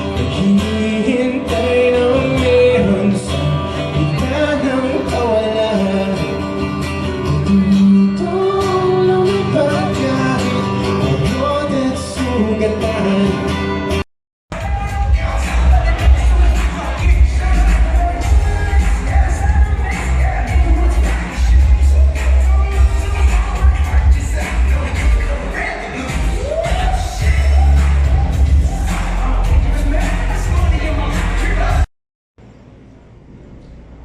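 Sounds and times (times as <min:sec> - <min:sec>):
country music with singing and guitar: 0:00.0 - 0:14.0, 0:14.6 - 0:31.9
different music: 0:00.0 - 0:31.9.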